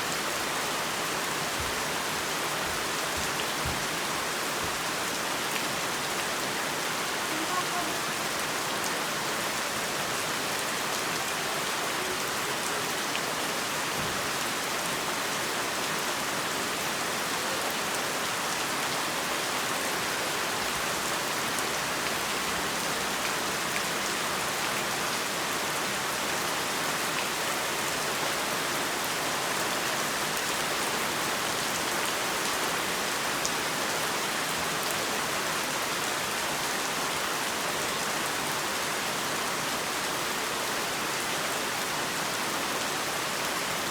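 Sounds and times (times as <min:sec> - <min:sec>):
heavy rain pattering: 0:00.0 - 0:42.2.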